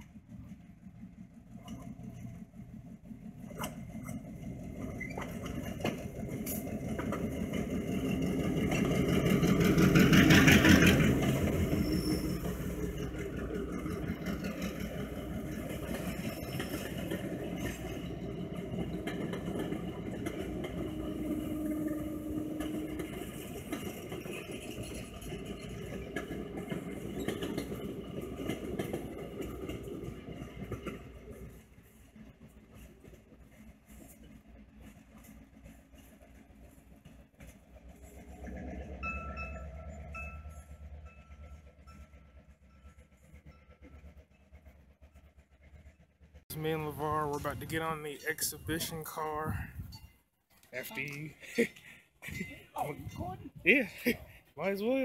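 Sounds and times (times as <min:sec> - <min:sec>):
train coaches clicking over rails: 0:00.0 - 0:48.0
diesel locomotive engine: 0:00.0 - 0:55.0.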